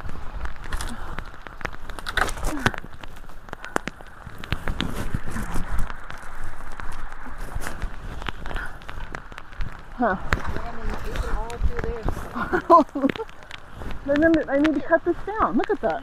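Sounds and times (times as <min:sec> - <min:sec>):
twigs crackling and snapping: 0:00.0 - 0:16.0.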